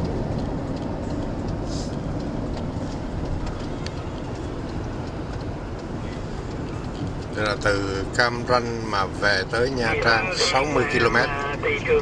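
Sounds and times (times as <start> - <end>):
tyres rumbling on asphalt: 0.0 - 12.0.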